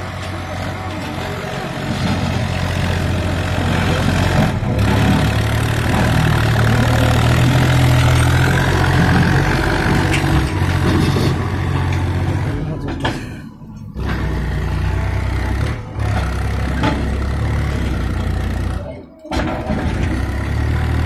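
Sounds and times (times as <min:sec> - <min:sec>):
tractor diesel engine labouring: 0:00.0 - 0:21.0.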